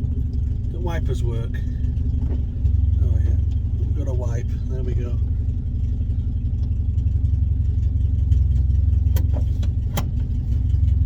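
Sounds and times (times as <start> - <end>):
pickup engine rumbling: 0.0 - 11.0.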